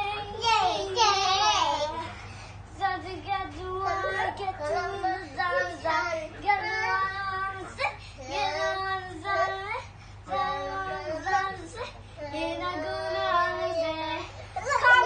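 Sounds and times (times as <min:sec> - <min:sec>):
child singing: 0:00.0 - 0:02.1, 0:02.8 - 0:15.0.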